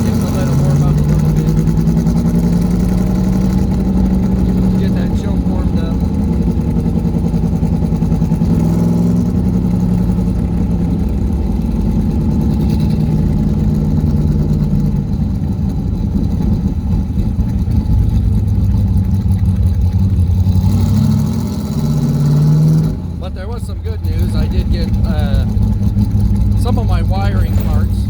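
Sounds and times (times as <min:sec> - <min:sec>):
car engine idling low: 0:00.0 - 0:28.0.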